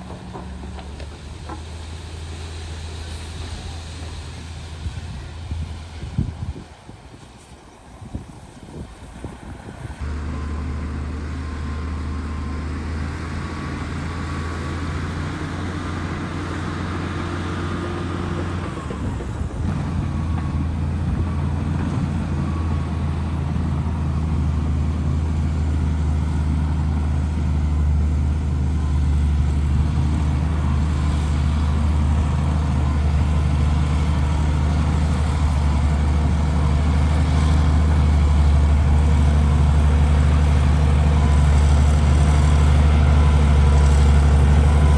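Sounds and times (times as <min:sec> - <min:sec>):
heavy diesel engine humming: 0:00.0 - 0:44.9.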